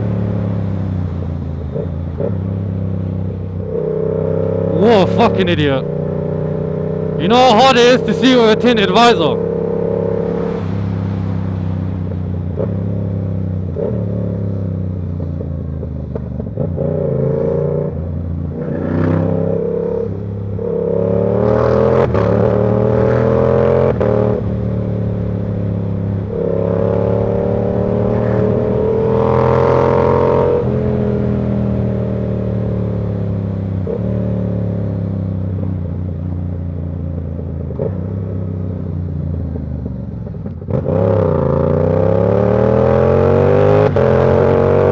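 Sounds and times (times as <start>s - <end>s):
motorcycle engine revving through gears: 0.0s - 4.9s, 5.8s - 7.2s, 9.4s - 44.9s.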